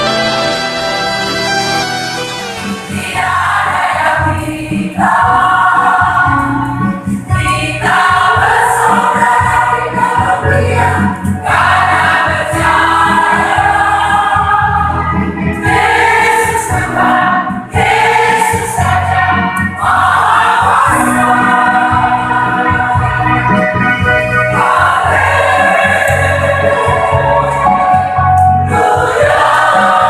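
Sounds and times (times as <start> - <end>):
choir singing: 0.0 - 6.7, 7.4 - 30.0
instrumental accompaniment: 0.0 - 30.0.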